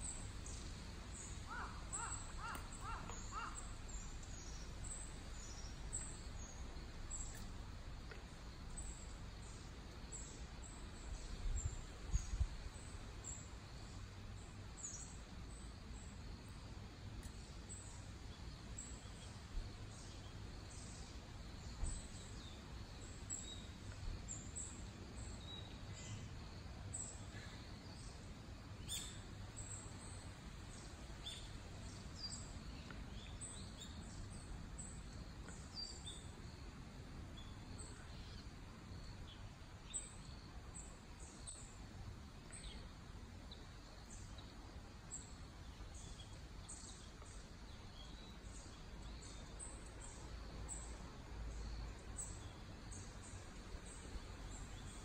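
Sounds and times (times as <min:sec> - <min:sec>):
faint low outdoor rumble: 0:00.0 - 0:55.0
small birds chirping: 0:00.0 - 0:55.0.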